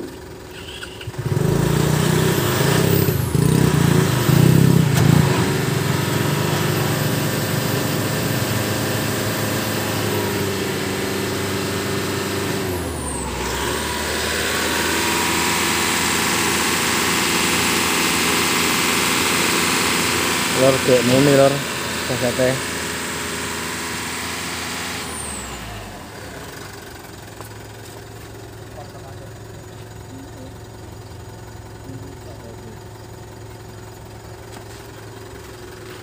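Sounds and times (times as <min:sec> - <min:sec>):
diesel generator running: 0:00.0 - 0:36.0.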